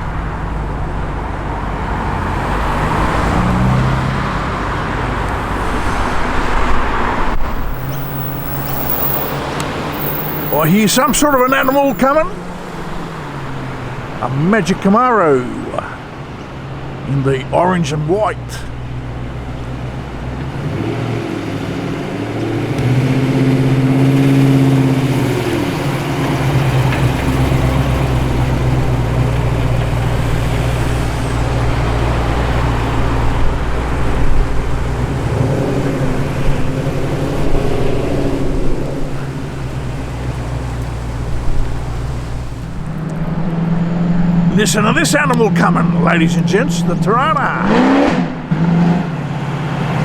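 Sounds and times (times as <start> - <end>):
car engines passing slowly: 0.0 - 50.0.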